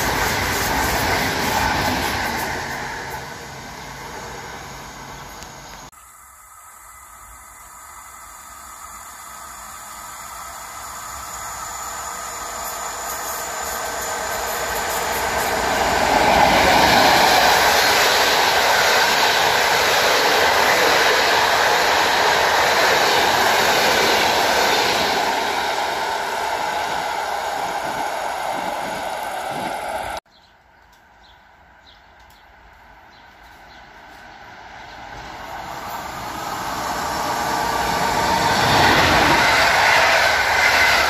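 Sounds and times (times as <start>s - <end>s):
train wheels on rails: 0.0s - 5.9s, 6.7s - 30.2s, 32.1s - 41.0s.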